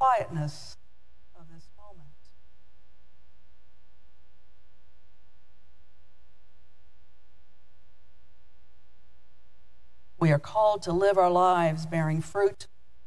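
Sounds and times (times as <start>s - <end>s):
electrical hum with buzzing overtones: 0.0s - 13.0s.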